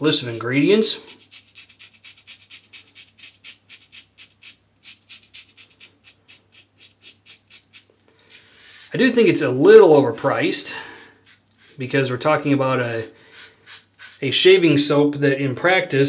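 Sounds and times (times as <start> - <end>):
razor scraping stubble: 0.2 - 14.7.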